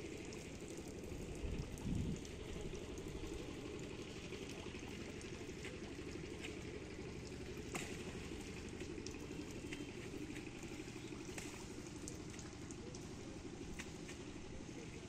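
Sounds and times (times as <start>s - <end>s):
steady low rumble: 0.0s - 15.0s
water dripping into pond: 0.0s - 15.0s.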